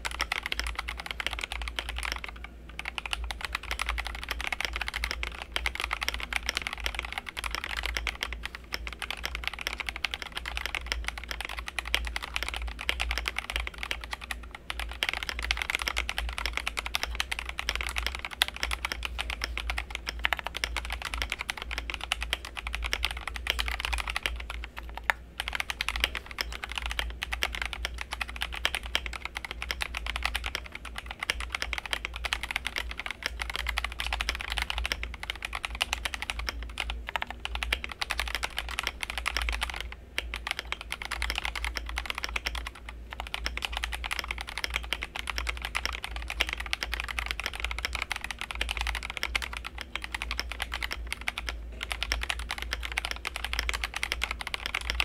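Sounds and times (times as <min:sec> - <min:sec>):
fast typing on mechanical keyboard: 0:00.0 - 0:55.0.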